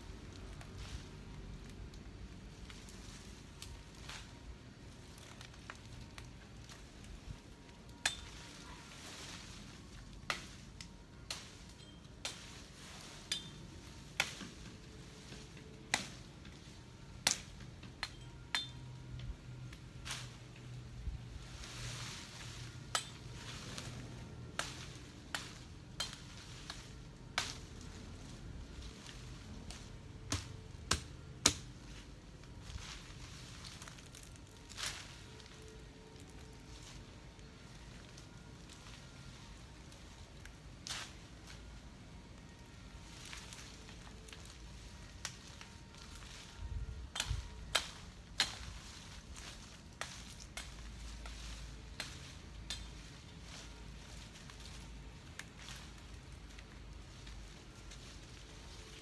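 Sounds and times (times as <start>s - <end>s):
leaves and twigs rustling: 0.0s - 59.0s
branches cracking as cut: 5.0s - 20.8s, 21.7s - 41.8s, 43.1s - 59.0s.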